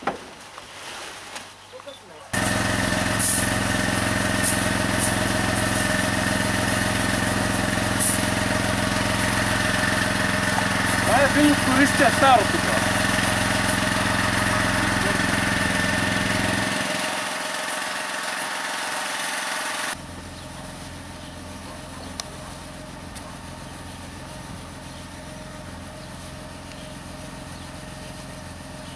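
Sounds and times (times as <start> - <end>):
small engine running: 2.3 - 28.9.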